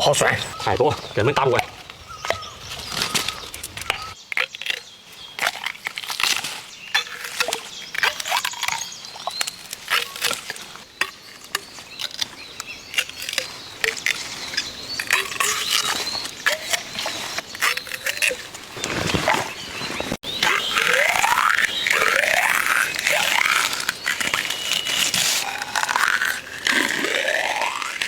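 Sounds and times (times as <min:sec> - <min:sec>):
plant stems snapping: 0:05.4 - 0:28.0.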